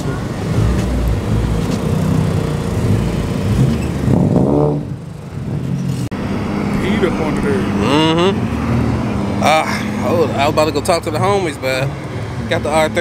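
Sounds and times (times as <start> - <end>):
car engine revving: 0.0 - 13.0
car engine running: 0.0 - 13.0.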